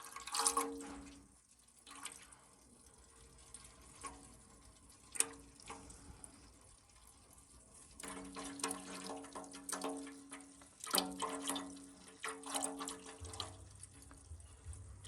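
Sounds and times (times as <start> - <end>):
oil trickling into a drain pan: 0.0 - 15.0
sharp drips: 0.0 - 15.0.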